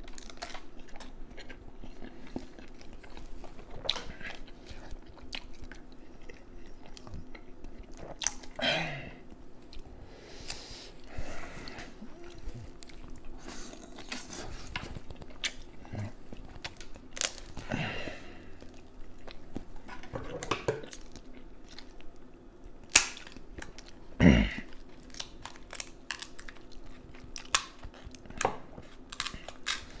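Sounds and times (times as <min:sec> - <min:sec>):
person chewing: 0:00.0 - 0:08.6, 0:09.2 - 0:20.0, 0:20.8 - 0:30.0.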